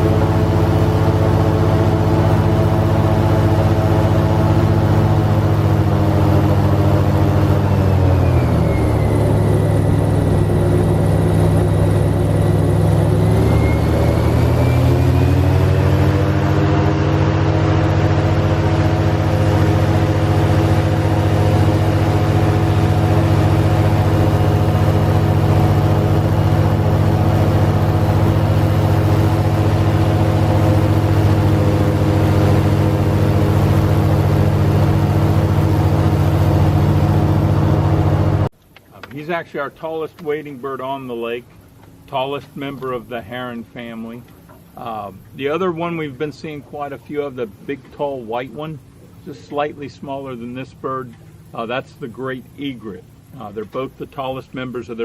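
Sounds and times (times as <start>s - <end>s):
airboat engine and propeller: 0.0s - 55.0s.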